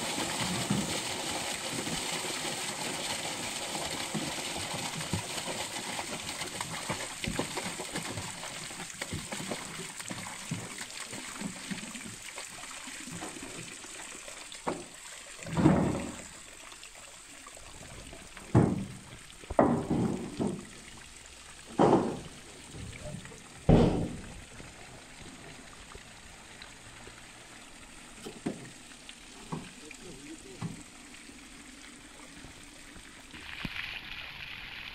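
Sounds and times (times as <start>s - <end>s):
water pouring into a lake: 0.0s - 34.9s.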